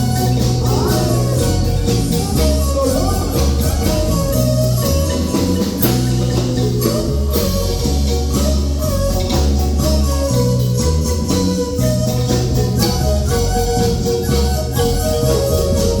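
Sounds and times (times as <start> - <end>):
marimba music: 0.0 - 16.0.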